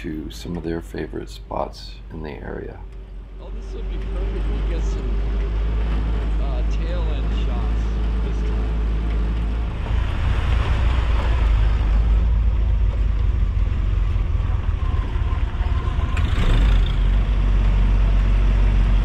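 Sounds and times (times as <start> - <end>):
off-road vehicle engine rumble: 0.0 - 19.0.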